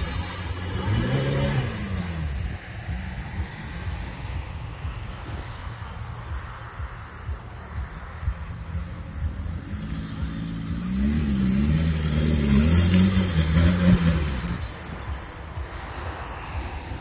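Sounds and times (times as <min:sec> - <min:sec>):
off-road vehicle engine revving: 0:00.0 - 0:06.4, 0:07.3 - 0:16.2.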